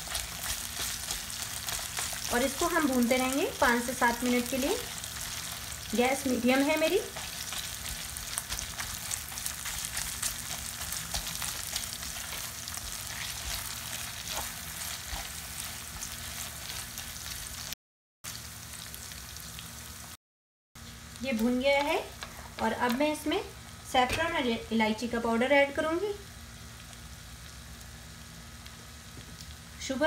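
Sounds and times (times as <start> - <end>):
potato sizzling in a pan: 0.0 - 20.2, 20.8 - 30.0.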